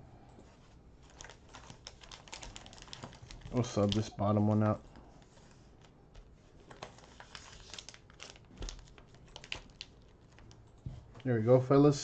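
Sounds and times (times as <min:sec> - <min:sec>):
cellophane crinkling: 0:01.0 - 0:11.3.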